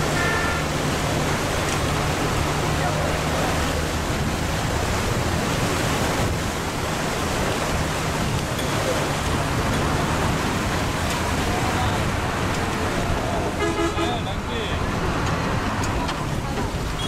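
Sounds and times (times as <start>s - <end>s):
bus engine humming: 0.0s - 17.0s
floodwater rushing and splashing: 0.0s - 17.0s.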